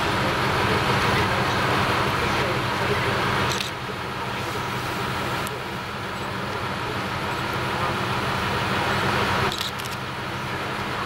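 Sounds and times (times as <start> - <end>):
diesel railcar idling: 0.0 - 11.0.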